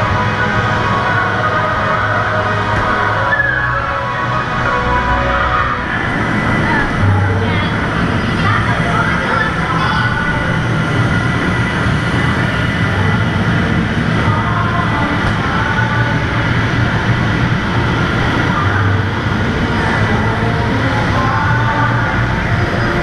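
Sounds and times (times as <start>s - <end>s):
blower machinery rumbling: 0.0s - 23.0s.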